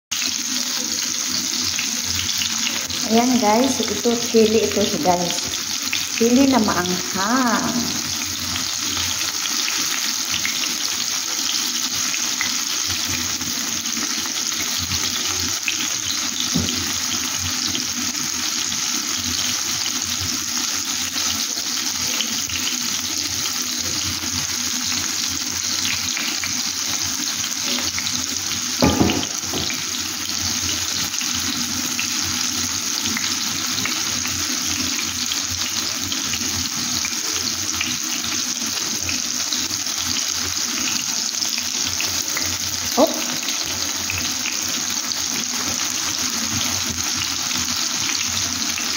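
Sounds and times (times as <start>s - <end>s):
tomato slices sizzling in oil: 0.1s - 48.9s.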